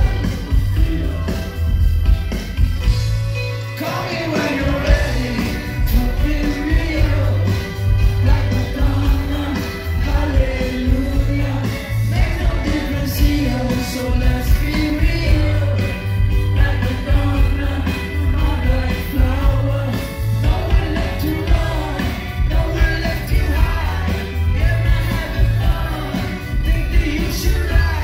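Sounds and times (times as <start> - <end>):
person singing: 0.0 - 2.4, 3.7 - 28.0
rock band playing live: 0.0 - 28.0.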